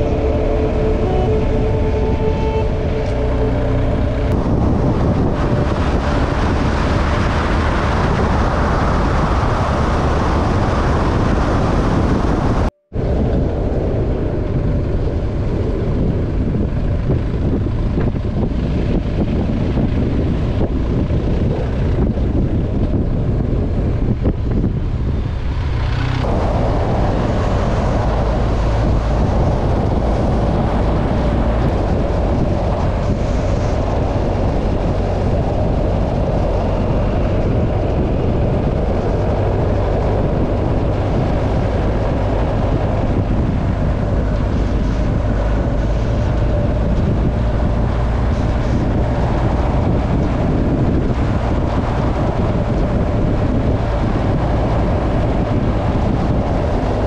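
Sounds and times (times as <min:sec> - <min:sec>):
motorcycle engine cruising: 0:00.0 - 0:57.0
wind noise on microphone: 0:00.0 - 0:57.0.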